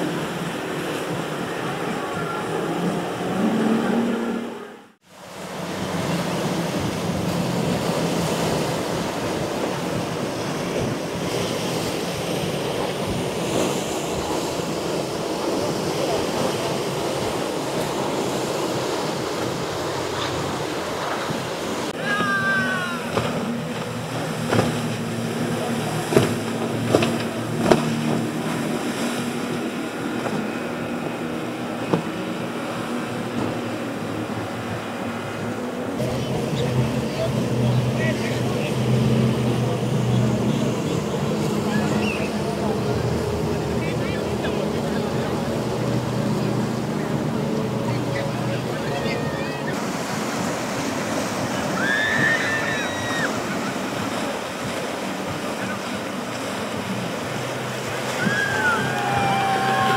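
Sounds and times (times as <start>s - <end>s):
boat engines running: 0.0s - 59.9s
water churning: 0.0s - 59.9s.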